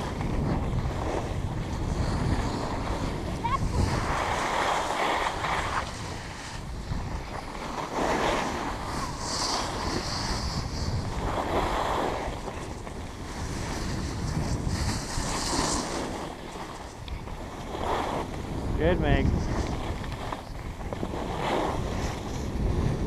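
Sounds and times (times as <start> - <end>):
skis carving on packed snow: 0.0 - 23.0
wind rushing over microphone: 0.0 - 23.0.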